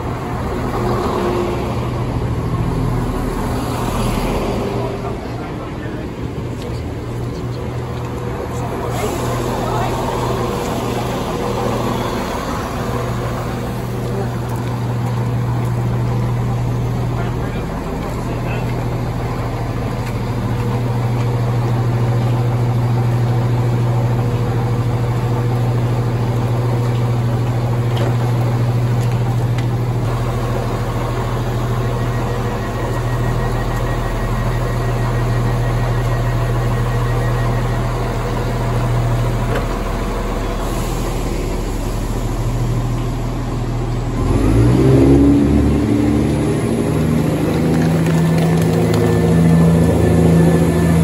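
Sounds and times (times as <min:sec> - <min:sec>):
diesel engine powering up: 0:00.0 - 0:51.0
train diesel engine idling: 0:00.0 - 0:51.0.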